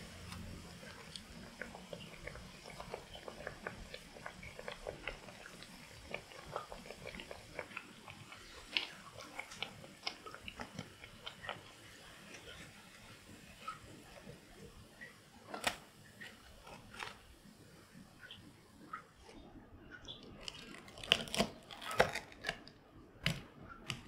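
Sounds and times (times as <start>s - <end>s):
oil crackling and popping: 0.0s - 17.4s, 20.0s - 24.0s.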